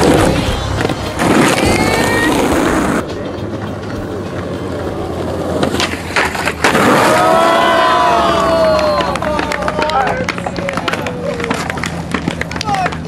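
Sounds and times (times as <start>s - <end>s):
skateboard clacks: 0.0s - 13.0s
skateboard wheels rolling on concrete: 0.0s - 13.0s.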